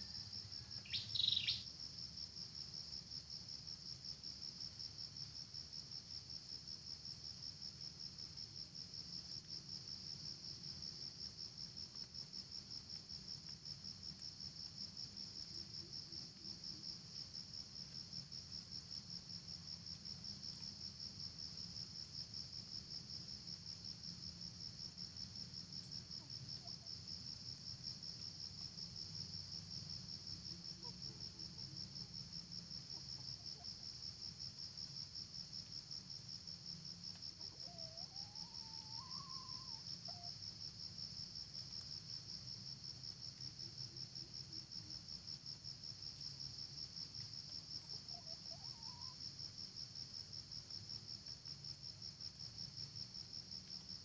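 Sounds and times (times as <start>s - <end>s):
insects trilling: 0.0s - 5.4s, 6.1s - 54.0s.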